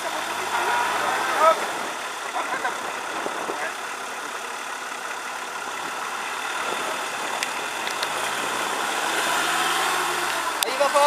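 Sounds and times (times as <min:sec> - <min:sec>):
off-road engine running: 0:00.0 - 0:11.0.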